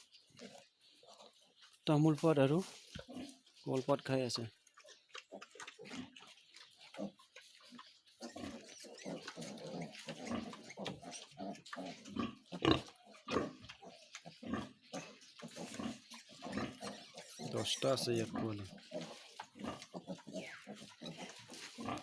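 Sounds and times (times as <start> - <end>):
pigs grunting: 2.6 - 22.0.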